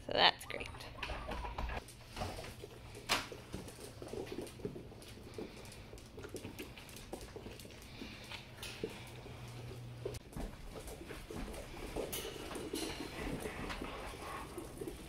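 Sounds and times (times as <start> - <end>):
paws tapping on hard floor: 0.9 - 15.0.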